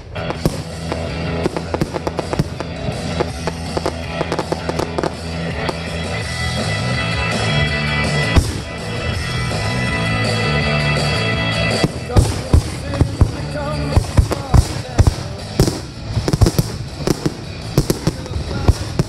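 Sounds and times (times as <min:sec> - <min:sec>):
fireworks bursting and crackling: 0:00.0 - 0:10.4, 0:11.6 - 0:19.0
music: 0:00.0 - 0:19.0.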